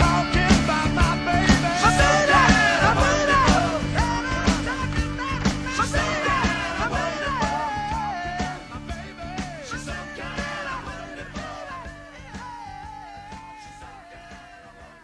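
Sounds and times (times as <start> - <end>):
steady drum beat: 0.0 - 14.5
song with singing voice: 0.0 - 15.0.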